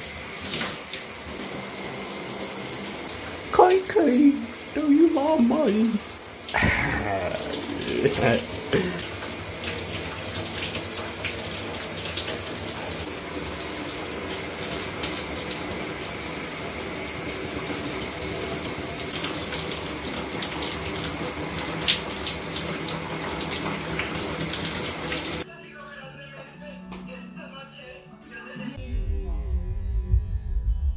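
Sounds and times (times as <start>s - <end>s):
shower water splashing: 0.0s - 25.4s.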